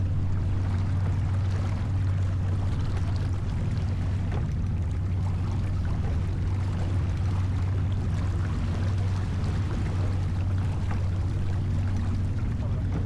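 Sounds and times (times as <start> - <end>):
steady low hum: 0.0 - 13.0
water splashing along hull: 0.0 - 13.0.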